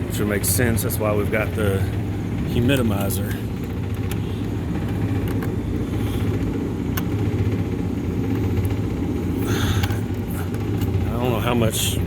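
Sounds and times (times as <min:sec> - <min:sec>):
hvac unit humming: 0:00.0 - 0:12.0.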